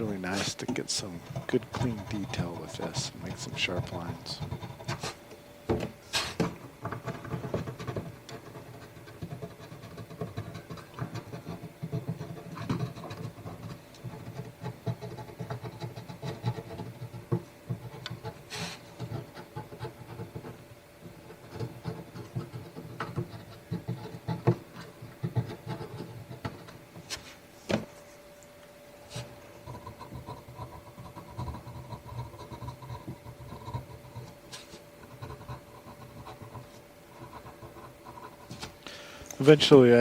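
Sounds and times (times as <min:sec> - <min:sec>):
pencil scratching on paper: 0:00.0 - 0:05.2, 0:06.2 - 0:27.4, 0:29.1 - 0:38.8.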